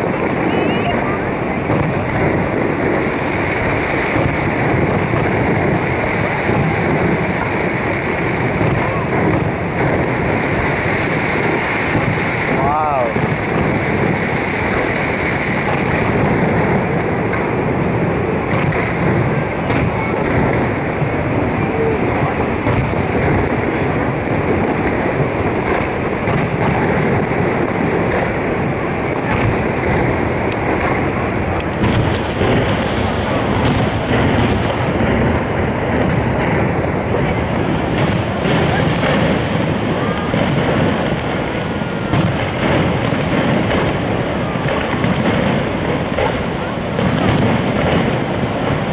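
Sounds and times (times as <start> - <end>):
fireworks bangs and crackles: 0.0 - 48.9
loud rushing roar: 0.0 - 48.9.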